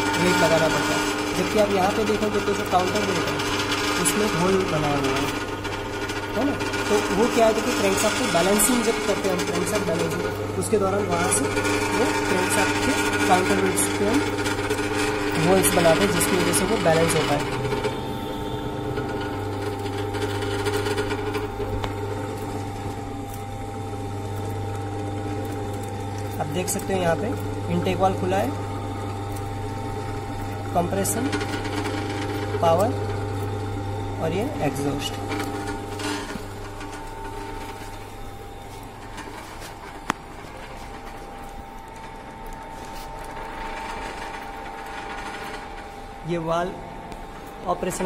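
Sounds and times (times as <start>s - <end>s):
electric motor hum: 0.0s - 48.0s
engine model running with whine: 0.0s - 48.0s.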